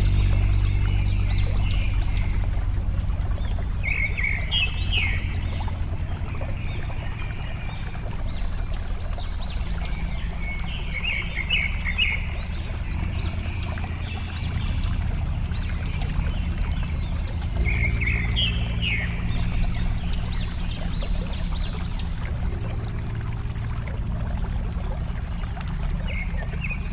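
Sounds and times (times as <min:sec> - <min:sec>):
birds chirping: 0:00.0 - 0:23.3
water flowing: 0:00.0 - 0:26.9.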